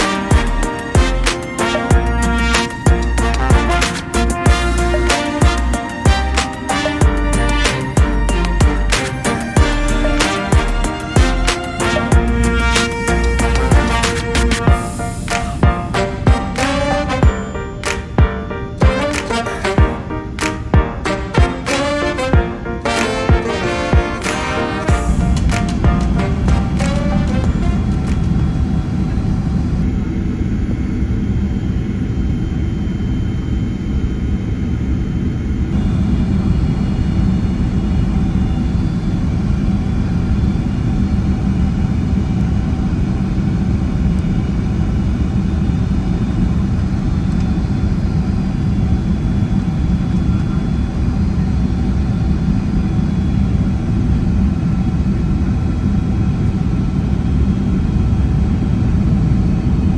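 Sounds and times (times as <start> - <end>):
airplane cabin engine rumble: 0.0 - 59.9
faint engine whine: 0.0 - 59.9.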